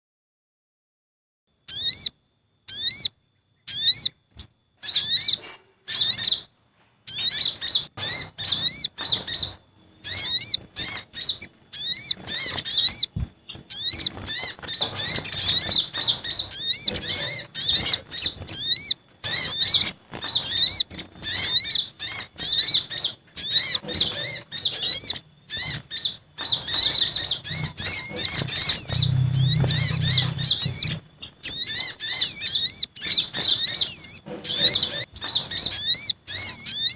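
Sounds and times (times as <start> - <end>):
high upward-sweeping bird chirps: 1.7 - 4.2, 4.8 - 6.5, 7.1 - 36.9.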